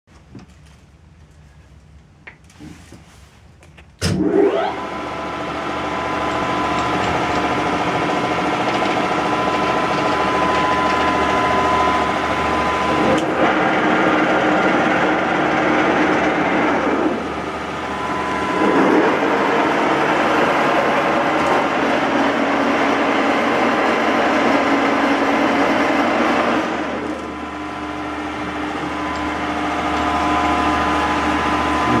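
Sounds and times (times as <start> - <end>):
lathe whining and humming: 4.2 - 32.0.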